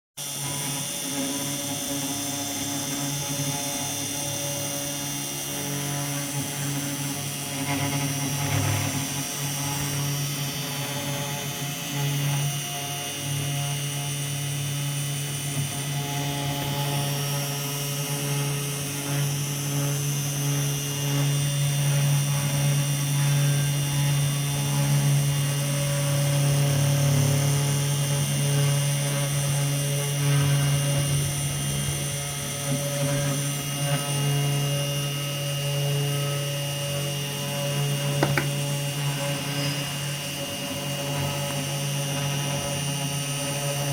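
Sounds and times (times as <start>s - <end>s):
cnc router spindle drone: 0.2s - 43.9s.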